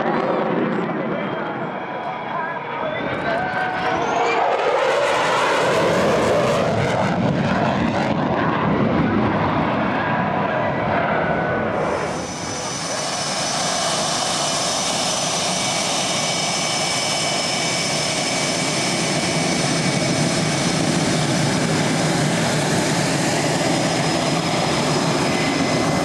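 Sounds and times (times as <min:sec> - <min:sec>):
jet engines with turbine whine: 0:00.0 - 0:26.0.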